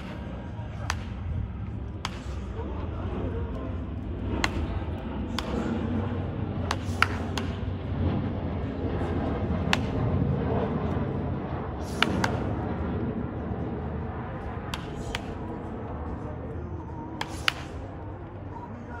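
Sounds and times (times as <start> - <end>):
bat cracking baseballs: 0.0 - 11.1, 11.7 - 13.2, 13.9 - 16.1, 17.0 - 18.4
outdoor murmur: 0.0 - 19.0.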